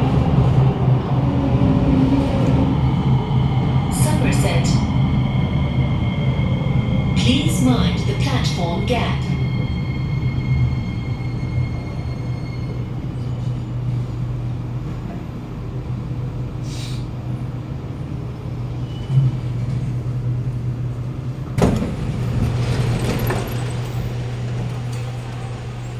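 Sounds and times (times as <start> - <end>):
low hum of train equipment: 0.0 - 25.9.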